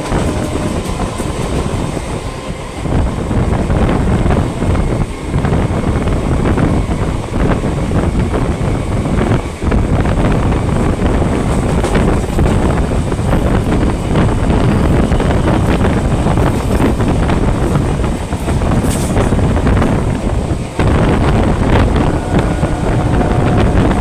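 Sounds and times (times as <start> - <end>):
train passing close by: 0.0 - 24.0
train wheels rumbling on track: 0.0 - 24.0
wind buffeting microphone: 0.0 - 24.0.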